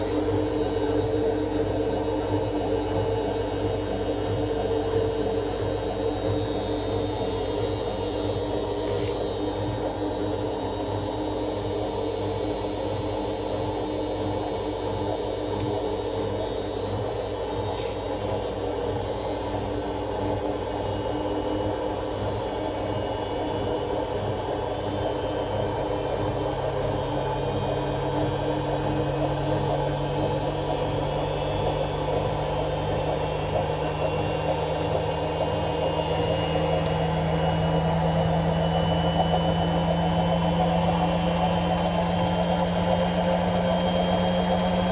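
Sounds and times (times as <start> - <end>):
washing machine drum spinning: 0.0 - 44.9.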